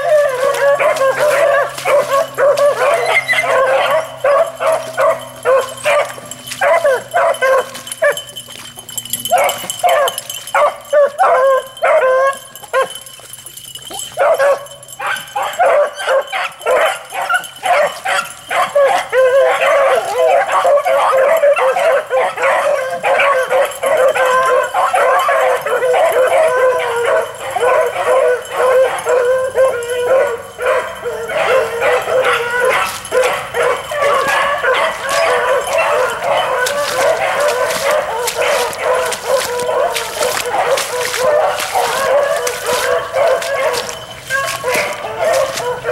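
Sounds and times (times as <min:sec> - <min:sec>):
dogs barking: 0:00.0 - 0:45.9
hounds baying and yipping: 0:00.0 - 0:45.9.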